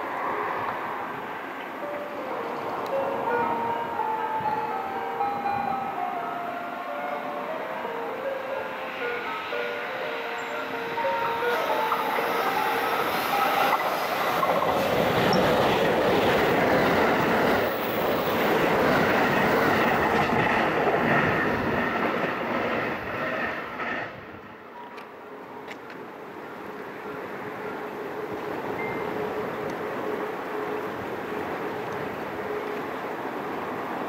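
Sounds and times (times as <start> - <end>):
train passing at speed: 0.0 - 34.0.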